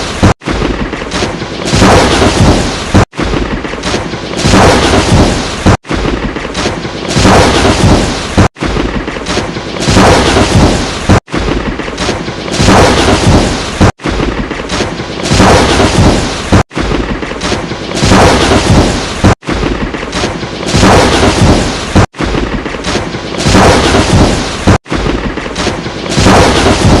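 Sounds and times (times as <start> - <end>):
lightning crack: 0.0 - 27.0
rumbling thunder: 0.0 - 27.0.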